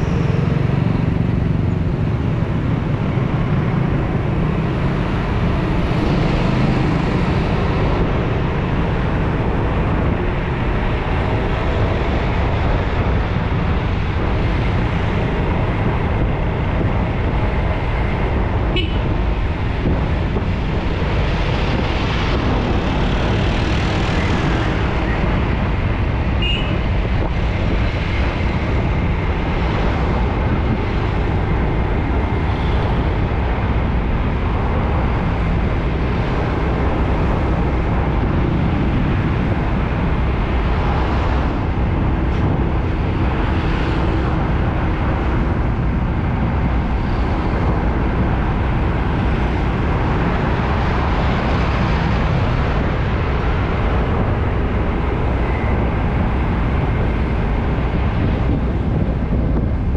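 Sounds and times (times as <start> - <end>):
heavy road traffic: 0.0 - 59.9.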